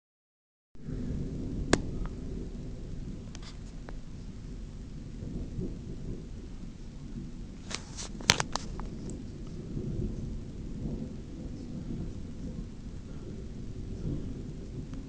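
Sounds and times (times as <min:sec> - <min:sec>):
distant thunder rumbling: 0:00.8 - 0:15.0.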